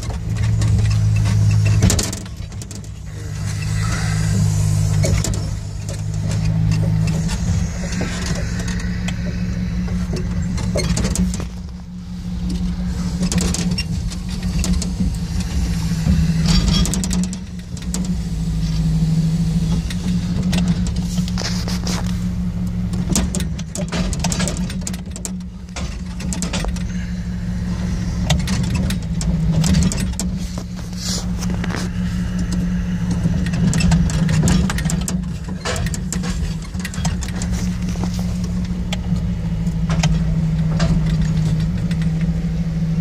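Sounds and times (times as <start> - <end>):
crane clanks and knocks: 0.0 - 43.0
engine running: 0.0 - 43.0.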